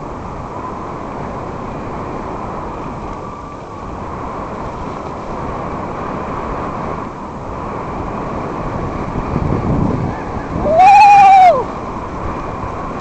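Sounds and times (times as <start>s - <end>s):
bicycle tyres rolling: 0.0s - 13.0s
wind buffeting microphone: 0.0s - 13.0s.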